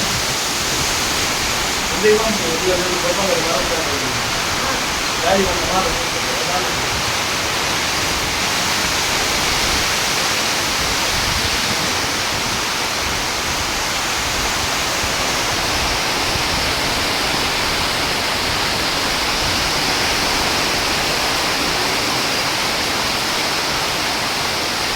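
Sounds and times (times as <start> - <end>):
wind and rain rushing hiss: 0.0 - 24.9.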